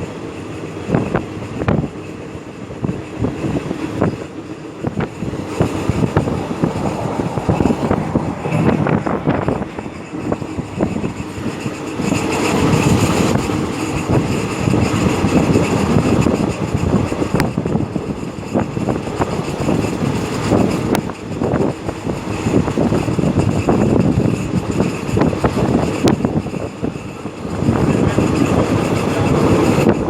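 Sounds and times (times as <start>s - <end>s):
sharp clicks of train wheels: 0.0s - 30.0s
train wheels rumbling on rails: 0.0s - 30.0s.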